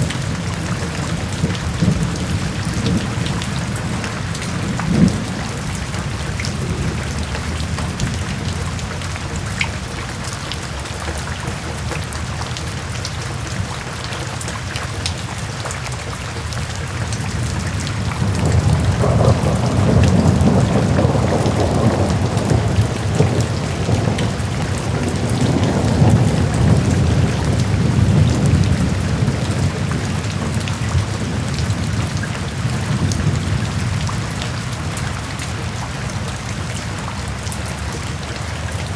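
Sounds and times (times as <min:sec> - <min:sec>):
low rumble of thunder: 0:00.0 - 0:11.9, 0:17.1 - 0:38.9
steady rain: 0:00.0 - 0:38.9.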